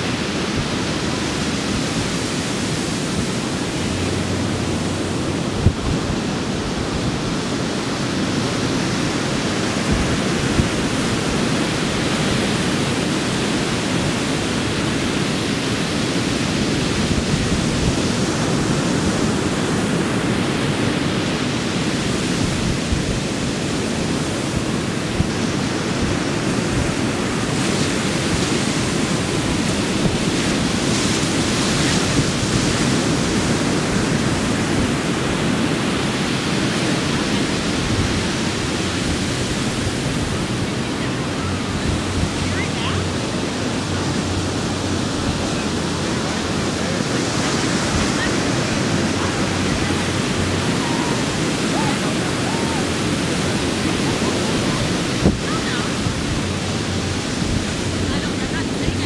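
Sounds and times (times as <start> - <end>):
surf breaking on a beach: 0.0 - 59.0.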